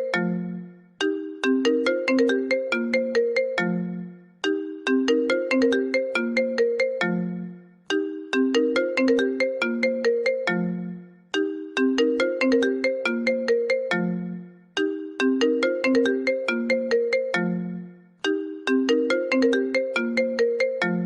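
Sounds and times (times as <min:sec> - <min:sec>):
bell-like ringtone melody: 0:00.0 - 0:21.0.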